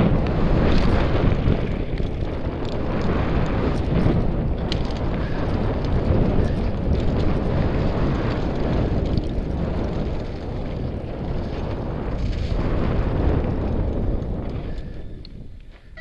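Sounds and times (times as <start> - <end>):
tyres rolling over gravel: 0.0 - 16.0
wind buffeting microphone: 0.0 - 16.0.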